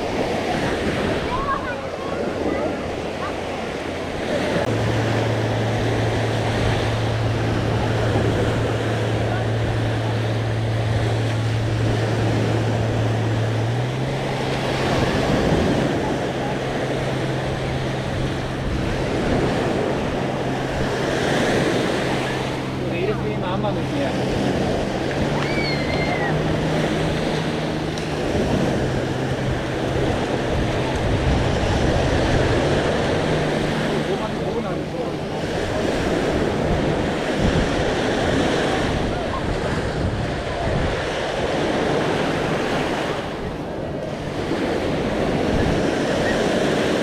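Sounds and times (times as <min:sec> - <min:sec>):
motor droning: 0:00.0 - 0:47.0
surf: 0:00.0 - 0:47.0
wind noise: 0:00.0 - 0:47.0.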